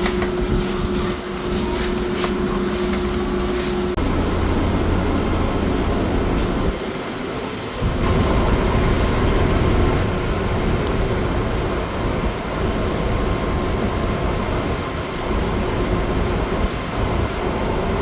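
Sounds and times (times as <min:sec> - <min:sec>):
machinery rumbling and rattling: 0:00.0 - 0:18.0.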